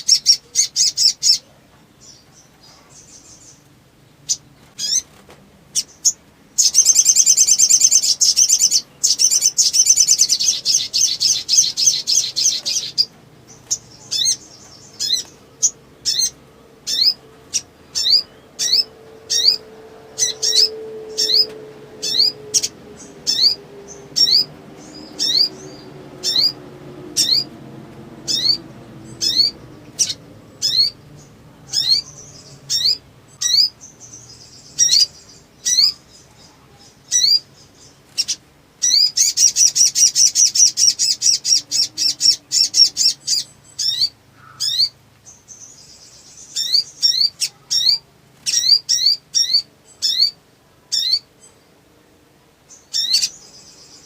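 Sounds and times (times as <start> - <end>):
bird chattering and chirping: 0.0 - 51.7, 52.7 - 54.0.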